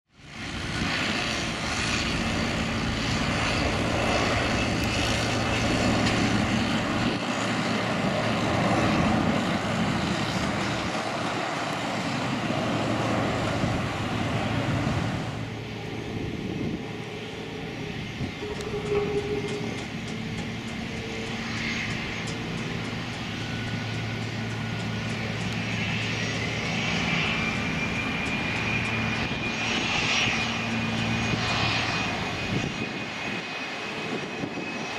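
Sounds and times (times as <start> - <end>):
jet engine whine: 0.1 - 34.9
jet engines roaring: 0.2 - 34.9.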